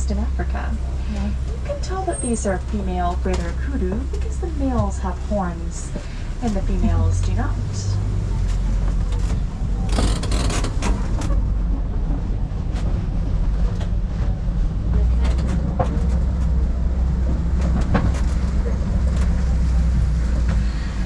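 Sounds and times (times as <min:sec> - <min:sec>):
truck engine and road rumble: 0:00.0 - 0:21.0
vehicle rattles and knocks: 0:01.3 - 0:21.0.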